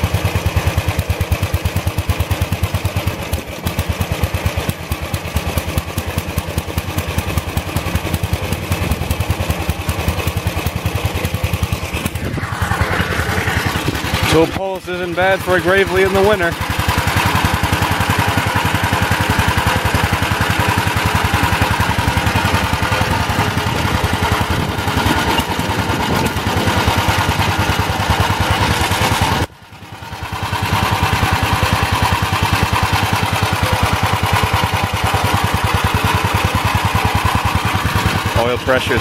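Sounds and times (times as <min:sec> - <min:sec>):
walk-behind tractor engine running: 0:00.0 - 0:39.0.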